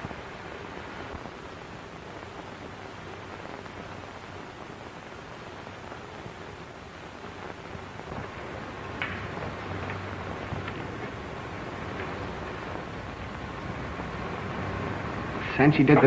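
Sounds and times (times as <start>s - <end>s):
faint low hum: 0.0s - 16.0s
film soundtrack hiss: 0.0s - 16.0s.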